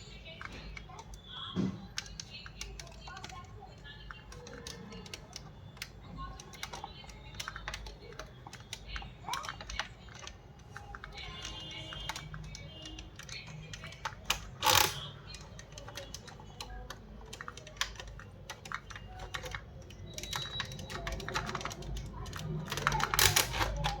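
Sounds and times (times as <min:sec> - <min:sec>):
small hard parts clicking and clattering: 0:00.0 - 0:24.0.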